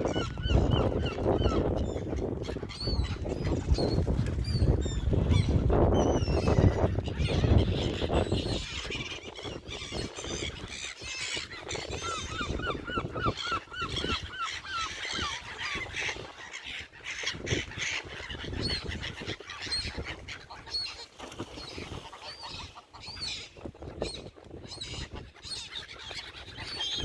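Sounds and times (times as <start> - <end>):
gulls and waterfowl calling: 0.0 - 27.0.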